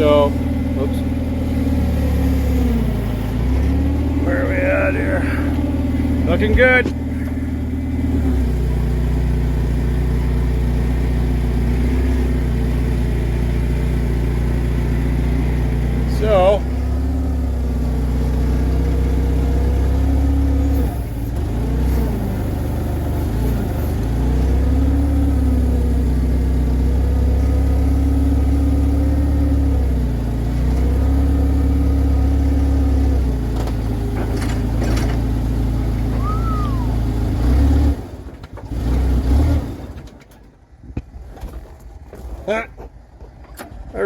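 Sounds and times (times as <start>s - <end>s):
forklift engine running and sputtering: 0.0s - 44.0s.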